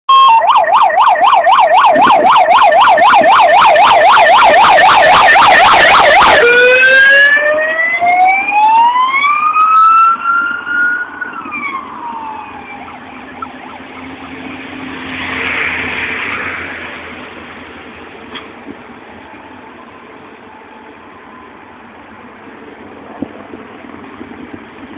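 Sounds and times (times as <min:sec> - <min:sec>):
vehicle siren yelp and wail: 0:00.1 - 0:17.2, 0:19.0 - 0:24.9
passing vehicle noise: 0:00.1 - 0:24.9.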